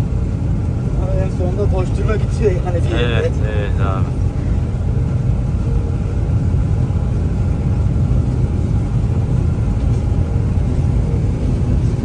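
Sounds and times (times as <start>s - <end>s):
harvester engine rumble: 0.0s - 12.0s.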